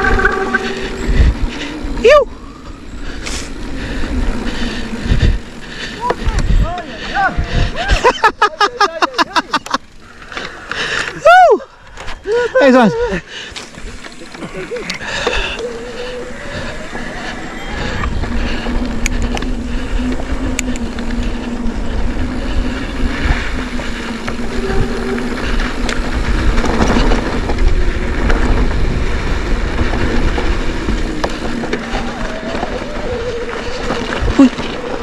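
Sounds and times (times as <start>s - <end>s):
wind buffeting microphone: 0.0s - 8.4s, 12.0s - 35.0s
bike clicks and rattles: 0.0s - 35.0s
buzzing tone from coasting bike: 0.0s - 35.0s
tyres rolling over dirt: 0.0s - 35.0s.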